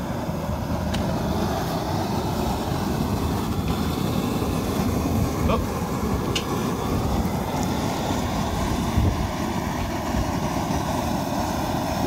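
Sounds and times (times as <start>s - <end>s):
propane burner running: 0.0s - 12.0s.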